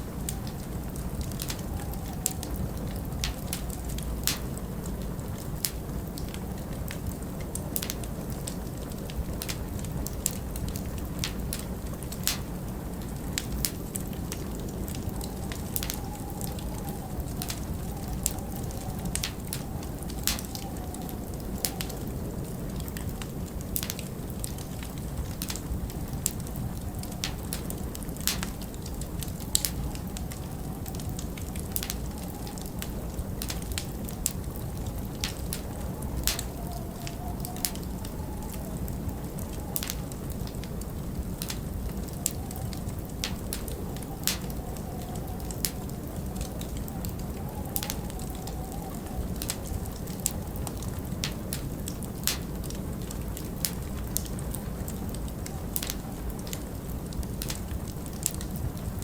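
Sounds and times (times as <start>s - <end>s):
storm wind rushing: 0.0s - 59.0s
wind whistling: 0.0s - 59.0s
wood fire crackling and popping: 0.0s - 59.0s.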